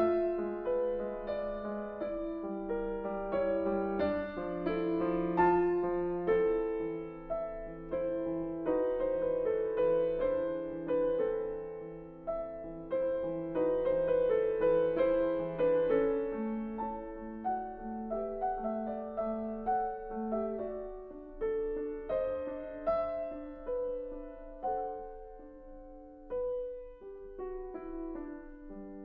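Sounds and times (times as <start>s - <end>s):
slow classical piano piece: 0.0s - 29.0s.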